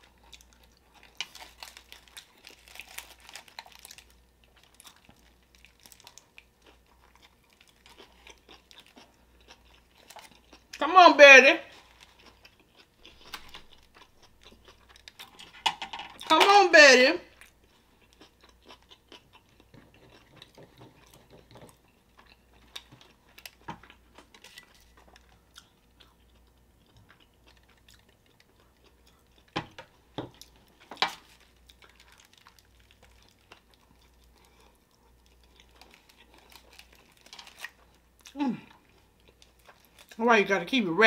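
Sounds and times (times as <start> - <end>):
wet chewing sounds: 0.0 - 10.8, 11.7 - 16.2, 17.4 - 40.2.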